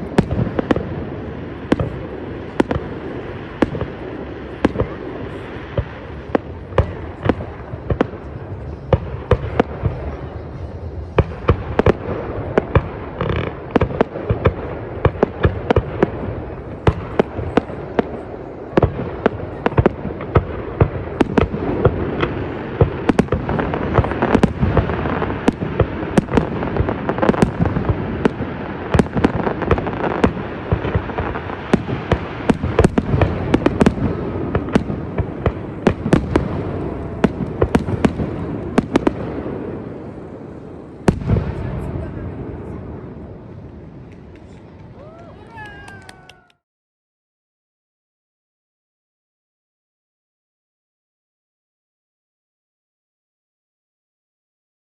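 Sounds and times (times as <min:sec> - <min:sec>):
fireworks sharp bangs: 0:00.0 - 0:46.5.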